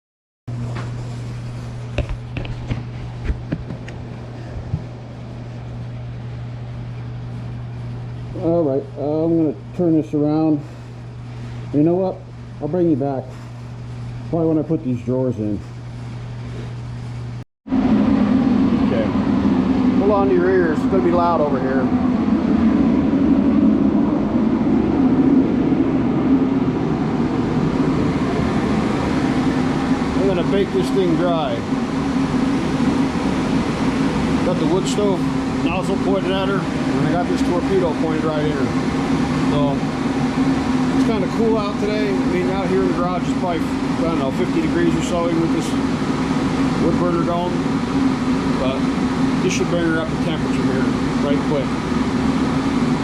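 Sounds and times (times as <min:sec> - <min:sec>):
forced-air heater blowing: 0:00.5 - 0:53.0
low mechanical hum: 0:00.5 - 0:53.0.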